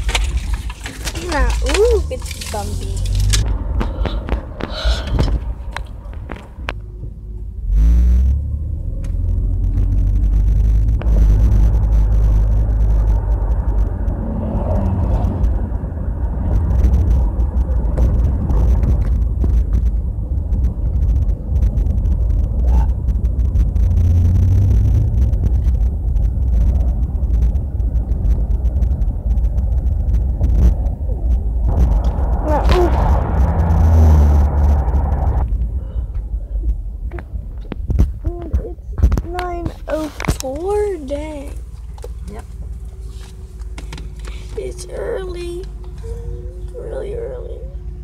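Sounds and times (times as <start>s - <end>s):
road and wind noise inside car: 0.0s - 48.0s.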